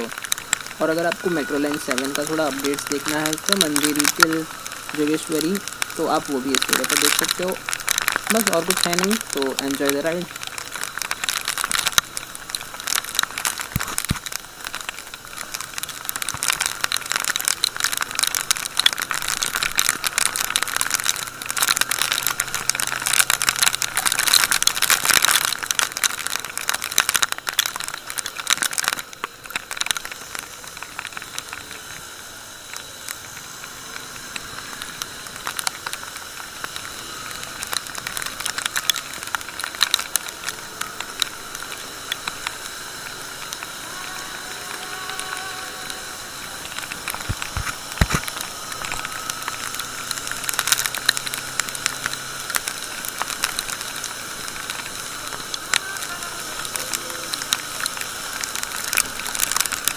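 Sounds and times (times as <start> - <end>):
hiss of rain and wet road: 0.0 - 59.9
rain drops crackling on microphone: 0.0 - 59.9.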